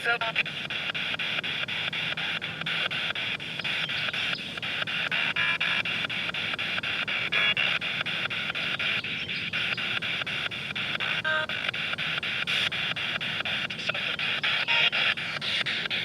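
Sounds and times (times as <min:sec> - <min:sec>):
radio static hiss with clicks: 0:00.0 - 0:16.0
snatches of radio broadcast: 0:00.0 - 0:16.0.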